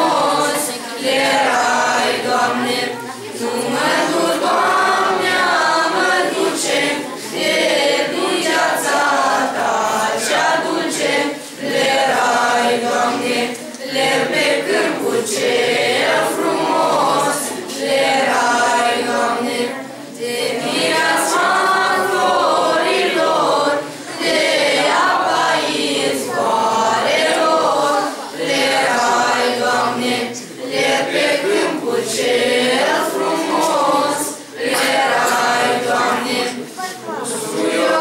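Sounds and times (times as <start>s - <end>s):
group of young voices singing: 0.0s - 38.0s.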